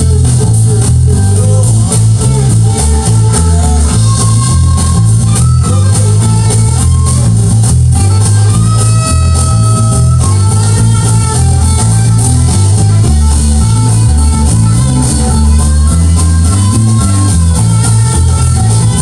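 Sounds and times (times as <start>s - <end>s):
electric bass line: 0.0s - 19.0s
rock band with drums and guitar: 0.0s - 19.0s.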